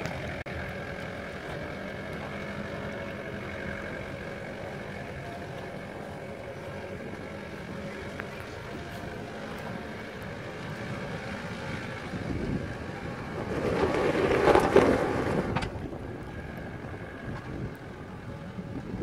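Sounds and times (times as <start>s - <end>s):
suv engine working under load: 0.0s - 19.0s.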